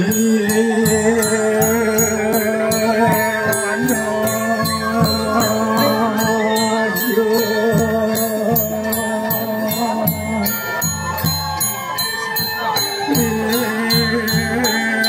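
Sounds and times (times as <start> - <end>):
low rhythmic pulses: 0.0 - 15.0
wavering melody line: 0.0 - 15.0.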